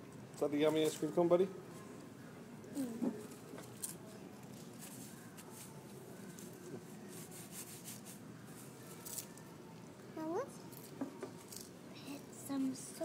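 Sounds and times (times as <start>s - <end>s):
quiet background noise: 0.0s - 13.0s.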